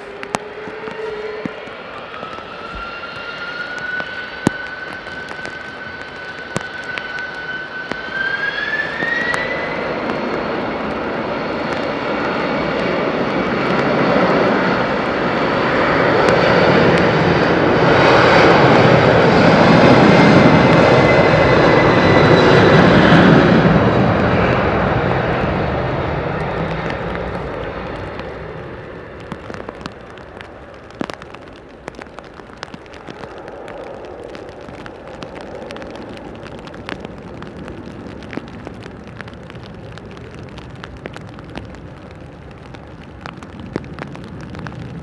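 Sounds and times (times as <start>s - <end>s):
jet airliner engines roaring: 0.0s - 45.0s.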